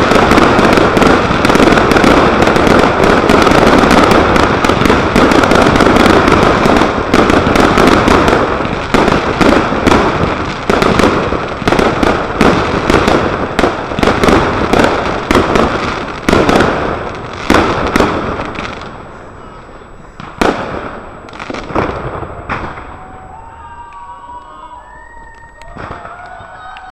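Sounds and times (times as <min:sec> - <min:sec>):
fireworks banging and crackling: 0:00.0 - 0:26.9.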